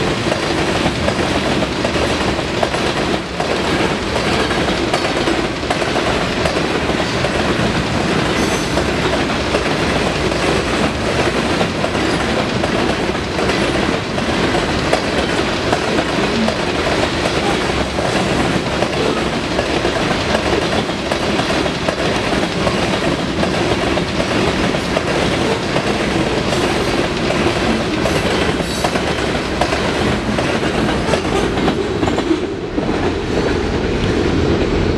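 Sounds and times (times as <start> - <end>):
freight train wheels clacking on rails: 0.0 - 34.9.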